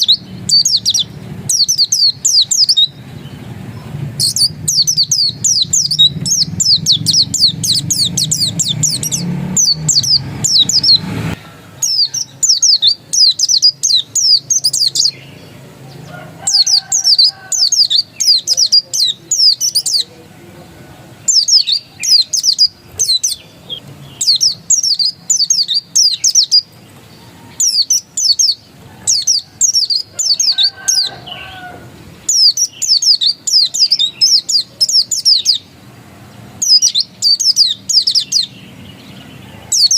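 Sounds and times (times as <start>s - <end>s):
bird twittering: 0.0s - 20.2s, 21.2s - 35.8s, 36.6s - 39.9s.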